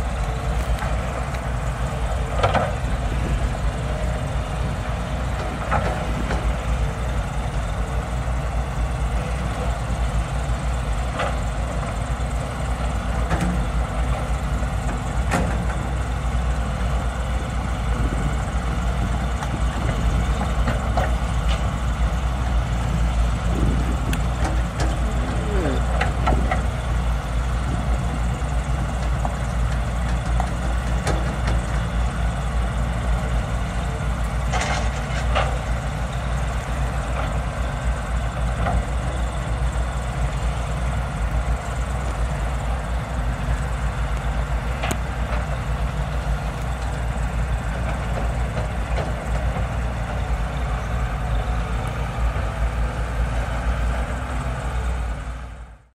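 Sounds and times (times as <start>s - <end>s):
excavator diesel engines rumbling: 0.0s - 55.9s.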